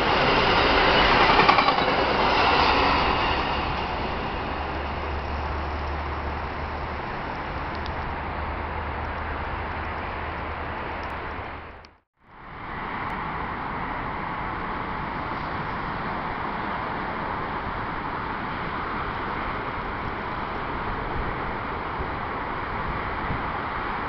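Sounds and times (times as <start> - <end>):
distant road traffic: 0.0 - 24.0.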